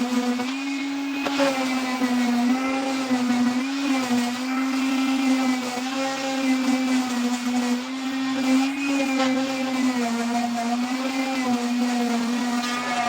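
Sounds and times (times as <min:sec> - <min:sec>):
electric grinder grinding steel: 0:00.0 - 0:13.0.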